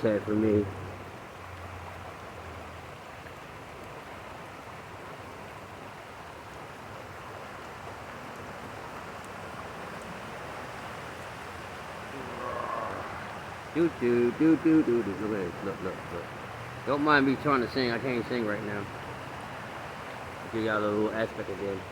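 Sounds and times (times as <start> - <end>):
falling rain: 0.0 - 21.9
stream water rushing: 0.0 - 21.9.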